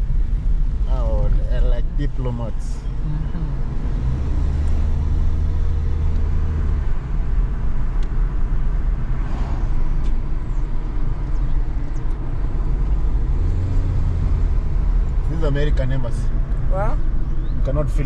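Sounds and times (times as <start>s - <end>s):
car engine drone: 0.0s - 18.0s
tyres rumbling on road: 0.0s - 18.0s.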